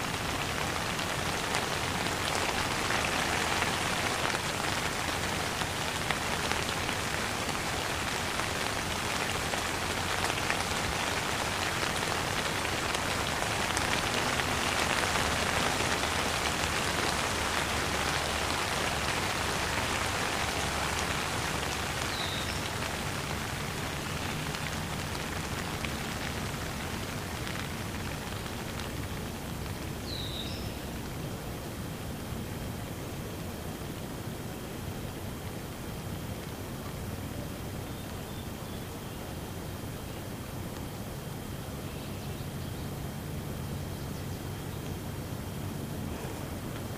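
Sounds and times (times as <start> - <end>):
steady rainfall: 0.0 - 46.9.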